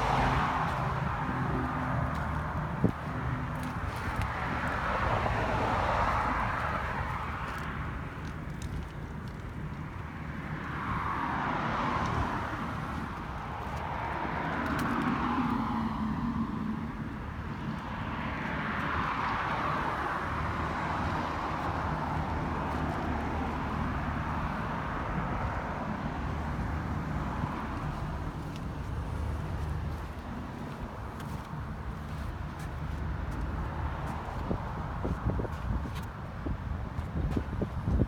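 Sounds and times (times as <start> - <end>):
background road noise: 0.0 - 38.0
vehicles passing: 0.0 - 38.0.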